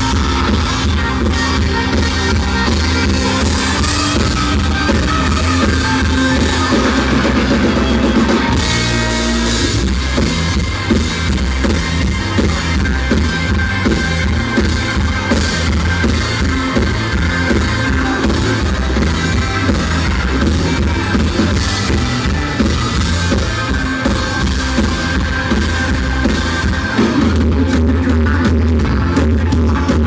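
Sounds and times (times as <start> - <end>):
country-rock band playing: 0.0 - 30.0.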